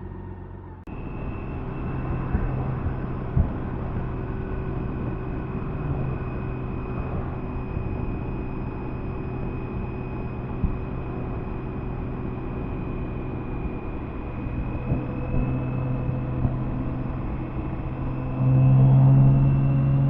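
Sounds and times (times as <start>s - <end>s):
road and wind noise: 0.0s - 20.0s
thin steady whine: 0.0s - 20.0s.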